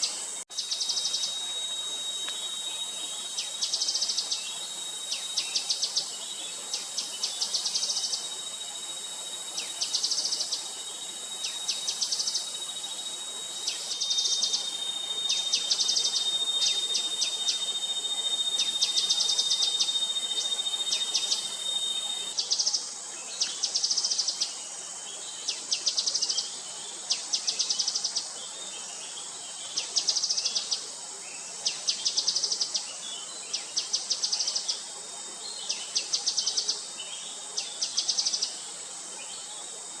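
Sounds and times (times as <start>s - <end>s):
insects hissing: 0.0s - 40.0s.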